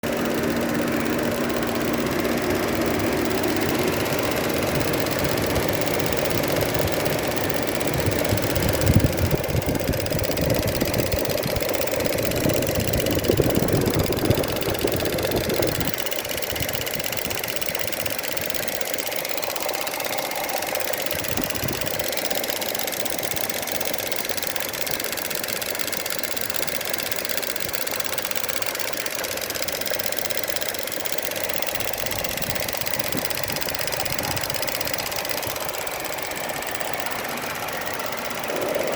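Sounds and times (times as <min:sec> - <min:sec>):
car engine idling: 0:00.0 - 0:38.9
rapid valve ticking: 0:00.0 - 0:38.9.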